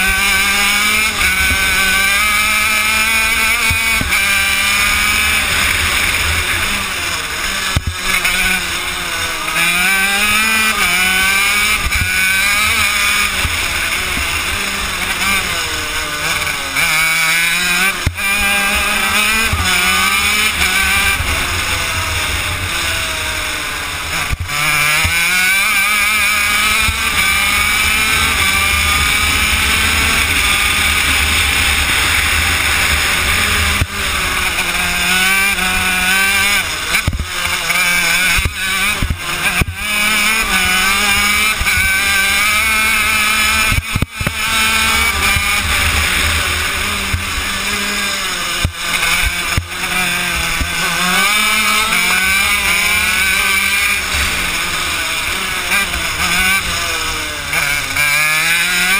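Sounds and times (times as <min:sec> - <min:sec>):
two-stroke kart engine revving: 0:00.0 - 0:58.9.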